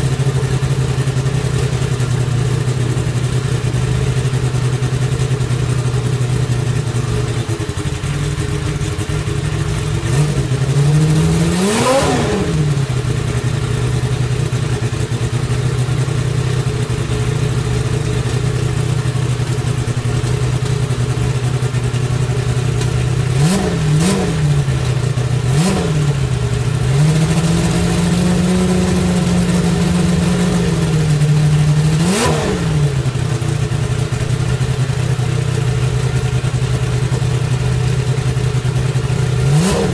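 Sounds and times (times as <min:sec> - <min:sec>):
race car engine idling and revving: 0:00.0 - 0:39.9.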